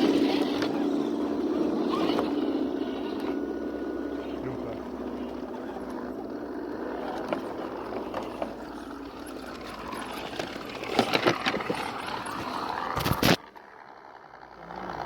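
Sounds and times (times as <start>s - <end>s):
small electric drivetrain running: 0.0s - 15.0s.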